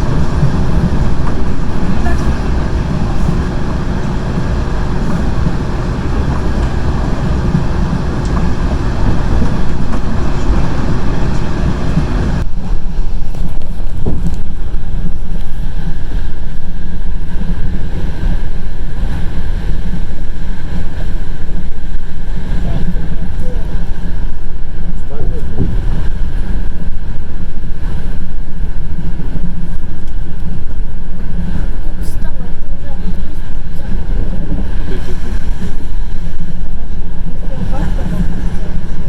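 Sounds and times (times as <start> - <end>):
train rumbling: 0.0 - 39.0
wind buffeting microphone: 0.0 - 39.0.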